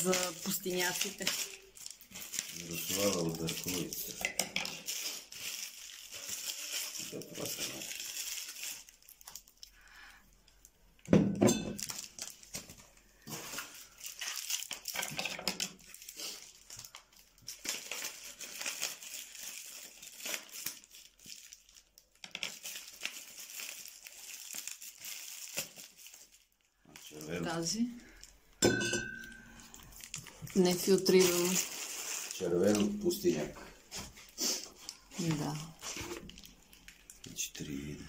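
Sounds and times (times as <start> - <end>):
plastic packaging crinkling: 0.0 - 11.1, 11.8 - 38.0.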